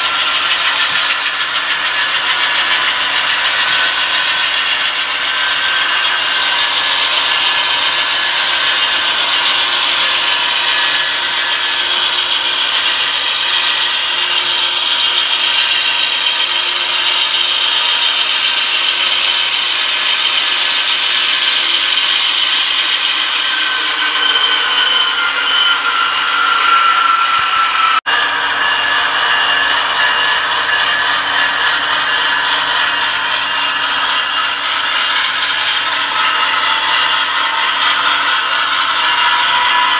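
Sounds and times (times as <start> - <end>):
model train wheels rattling on rails: 0.0 - 39.9.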